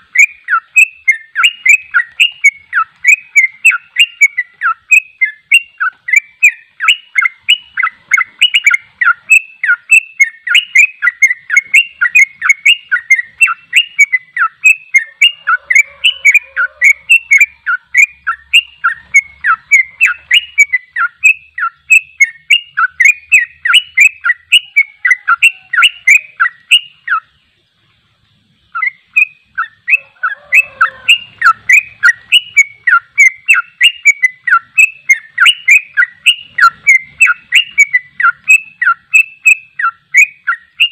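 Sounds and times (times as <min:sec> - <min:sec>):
bird singing fast chattering notes: 0:00.0 - 0:40.9.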